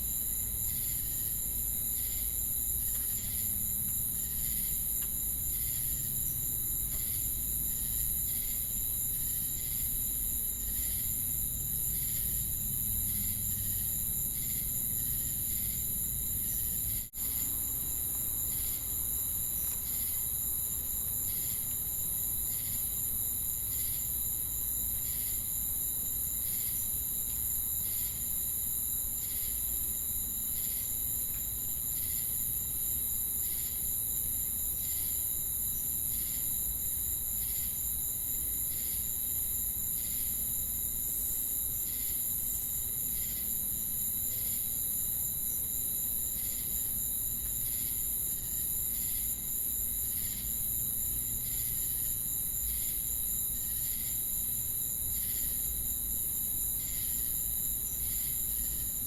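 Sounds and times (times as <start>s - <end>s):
crickets and cicadas trilling: 0.0s - 59.0s.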